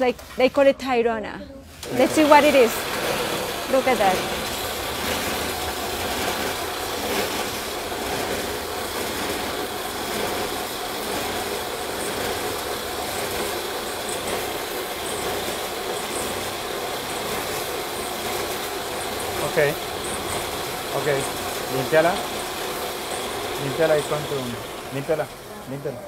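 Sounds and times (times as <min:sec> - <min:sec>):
belt sander running: 0:01.8 - 0:26.0.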